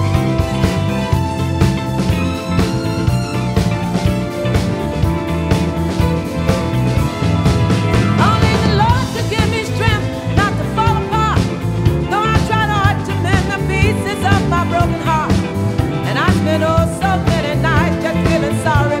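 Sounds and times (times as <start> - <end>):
song with sung melody and beat: 0.0 - 19.0.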